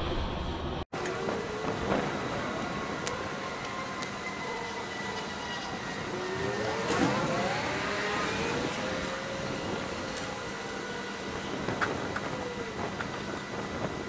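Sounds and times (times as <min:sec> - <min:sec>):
hvac fan whooshing and humming: 0:00.0 - 0:14.0
motor whine: 0:01.0 - 0:14.0.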